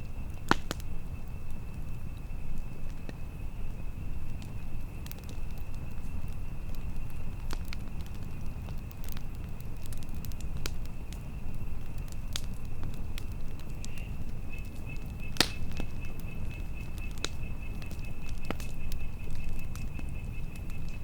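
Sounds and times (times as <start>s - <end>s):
campfire crackling and popping: 0.0s - 21.0s
rumble of flames: 0.0s - 21.0s
wind: 0.0s - 21.0s.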